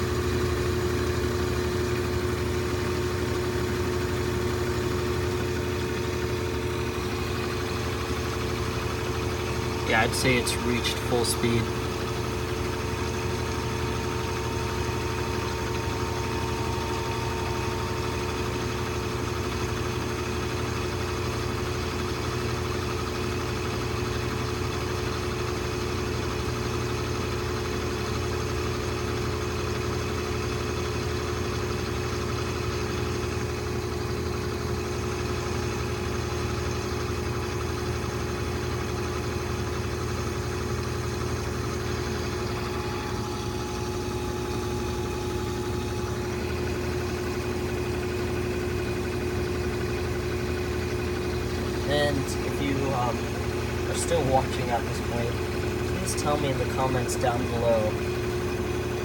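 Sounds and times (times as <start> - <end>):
washing machine spinning: 0.0 - 59.0.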